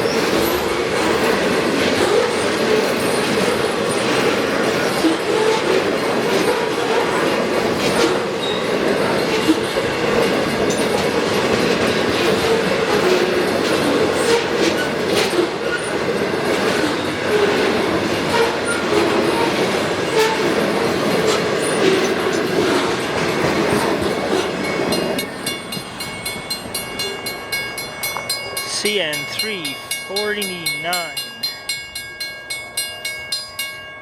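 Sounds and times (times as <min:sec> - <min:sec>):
train cars rumbling past: 0:00.0 - 0:34.0.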